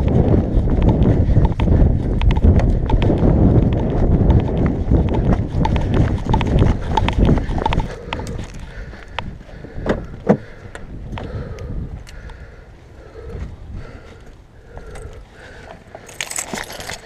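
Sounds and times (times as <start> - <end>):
running footsteps on pavement: 0.0 - 17.0.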